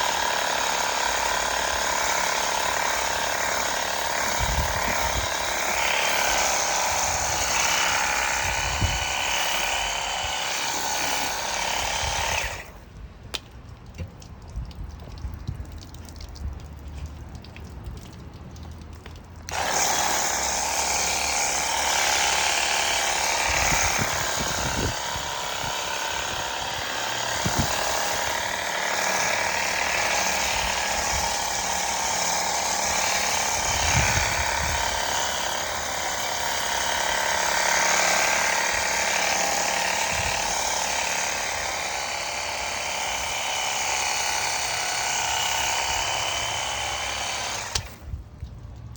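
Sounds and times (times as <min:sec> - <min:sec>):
pressure washer motor and pump: 0:00.0 - 0:12.9, 0:16.8 - 0:48.9.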